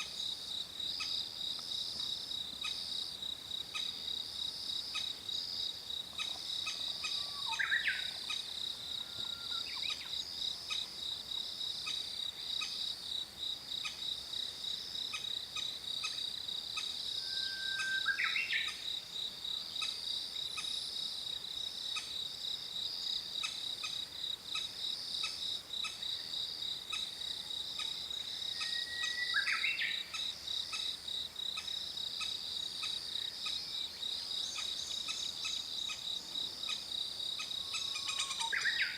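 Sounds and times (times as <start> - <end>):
high insect trill: 0.0 - 38.9.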